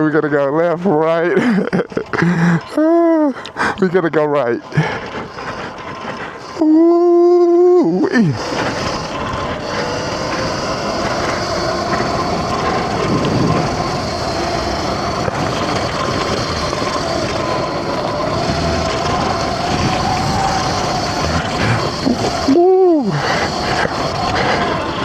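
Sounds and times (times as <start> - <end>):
dirt bike engine running: 0.0 - 25.0
steady rushing noise: 0.0 - 25.0.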